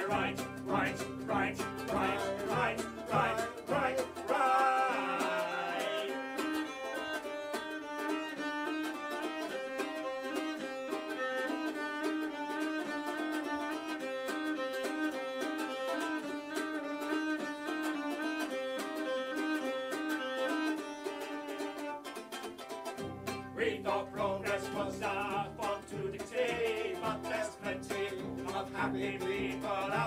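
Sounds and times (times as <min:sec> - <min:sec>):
bowed cello: 0:00.0 - 0:22.0, 0:23.0 - 0:30.0
strummed ukulele: 0:00.0 - 0:30.0.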